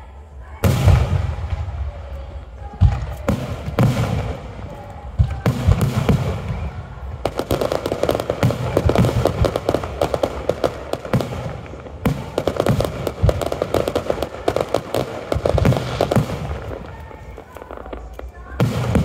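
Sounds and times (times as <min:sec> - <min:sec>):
fireworks bangs and crackles: 0:00.4 - 0:19.0.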